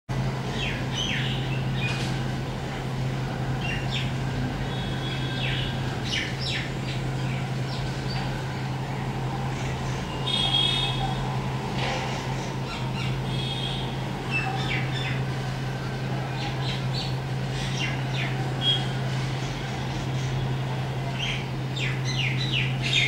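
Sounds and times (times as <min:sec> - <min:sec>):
steady low hum: 0:00.1 - 0:23.0
birds chirping: 0:00.4 - 0:02.2, 0:03.4 - 0:11.4, 0:12.3 - 0:15.4, 0:16.2 - 0:23.0.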